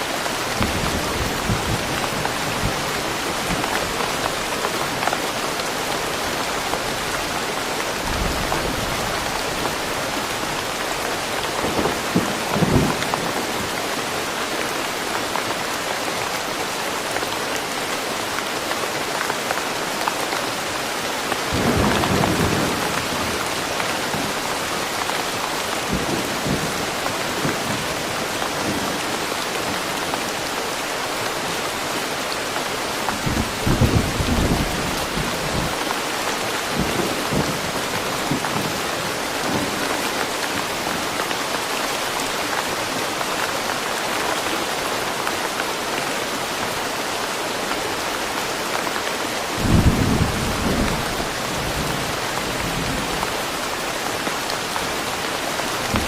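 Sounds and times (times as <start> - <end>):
steady rain in woodland: 0.0 - 56.0.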